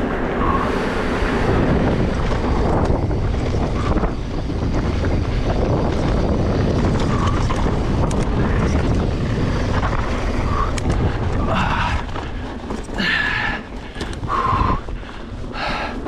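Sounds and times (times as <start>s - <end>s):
mountain bike rolling on dirt trail: 0.0s - 16.0s
wind on microphone: 0.0s - 16.0s.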